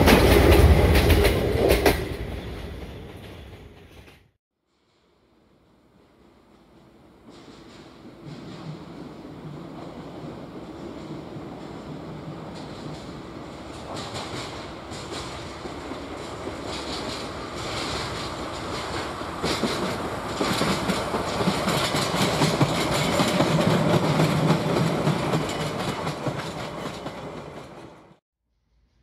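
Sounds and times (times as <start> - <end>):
train wheels clicking over rail joints: 0.0 - 4.3, 6.1 - 28.2.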